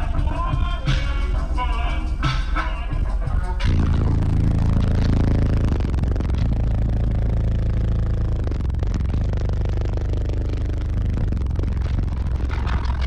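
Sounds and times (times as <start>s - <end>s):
bass-heavy music from subwoofers: 0.0s - 13.0s
rattling: 0.0s - 13.0s.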